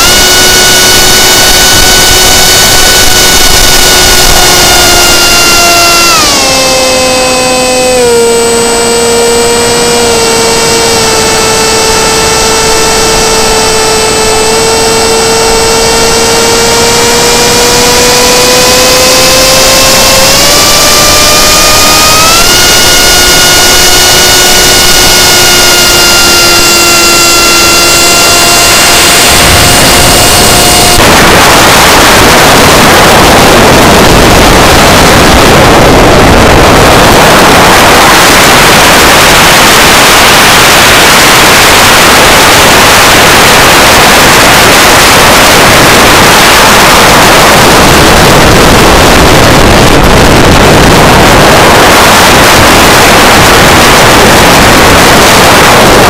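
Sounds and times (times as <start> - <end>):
drone motors and propellers whining: 0.0 - 56.0
wind noise on microphone: 0.0 - 56.0.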